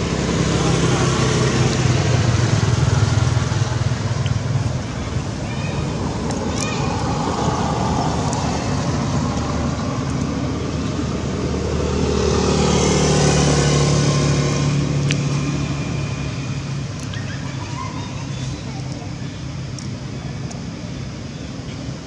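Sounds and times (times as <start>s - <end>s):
vehicle engine passing by: 0.0s - 19.8s.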